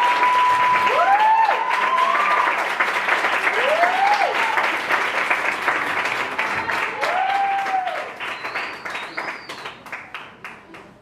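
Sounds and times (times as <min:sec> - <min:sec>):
people cheering: 0:00.0 - 0:09.9
audience applauding: 0:00.0 - 0:11.0.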